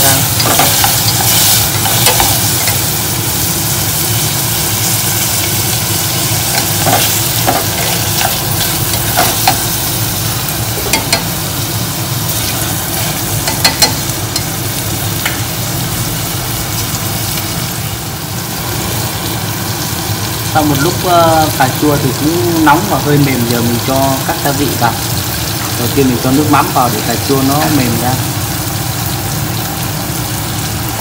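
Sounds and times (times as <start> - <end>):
vegetables sizzling in hot oil: 0.0 - 31.0.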